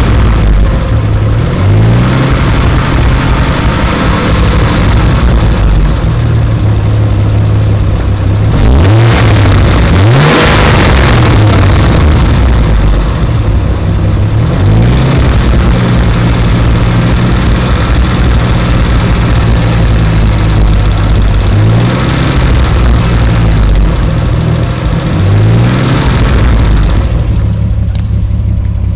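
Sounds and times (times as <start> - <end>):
car engine idling and revving: 0.0 - 28.9
engine ticking: 0.0 - 28.9.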